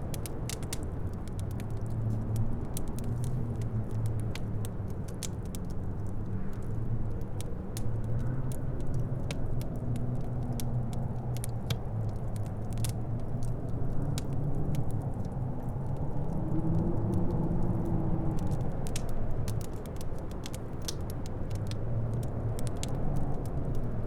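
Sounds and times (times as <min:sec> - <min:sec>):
low rumble of wind: 0:00.0 - 0:24.0
sharp pops and snaps: 0:00.0 - 0:24.0
wood fire crackling: 0:00.0 - 0:24.0.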